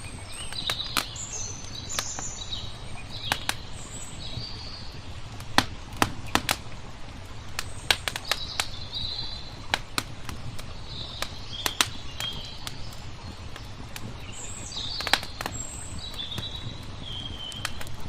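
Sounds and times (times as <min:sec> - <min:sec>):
small birds chirping: 0:00.0 - 0:06.6, 0:07.2 - 0:18.0
wood fire crackling and popping: 0:00.0 - 0:18.0.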